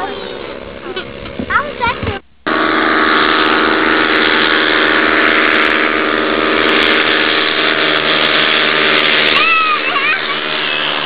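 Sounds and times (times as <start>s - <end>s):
ultralight aircraft engines running: 0.0s - 11.0s.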